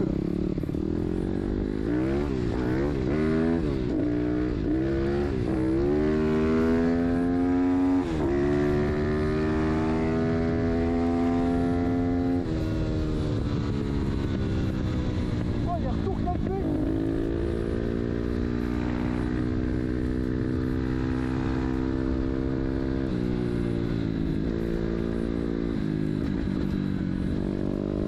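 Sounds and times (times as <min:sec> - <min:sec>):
motorbike engine revving: 0:00.0 - 0:28.0
wind noise: 0:00.0 - 0:28.0.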